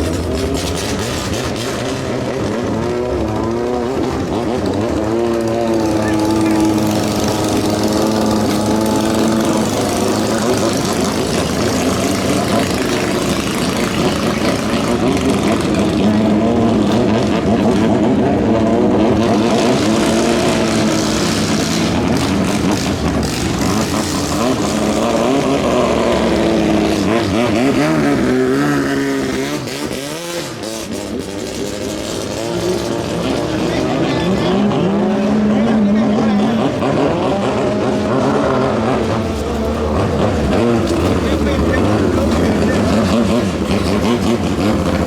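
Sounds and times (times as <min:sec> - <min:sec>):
racing boat engine revving: 0:00.0 - 0:45.0.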